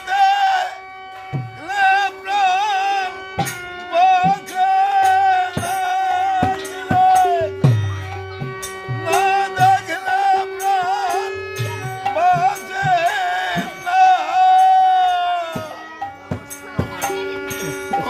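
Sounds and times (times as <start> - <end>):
wavering melodic lead: 0.0 - 18.0
hand-drum strokes: 1.2 - 18.0.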